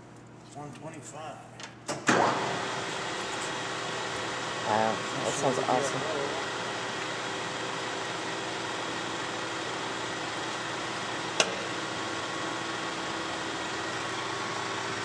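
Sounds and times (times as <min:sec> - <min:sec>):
lathe running: 0:02.4 - 0:15.0.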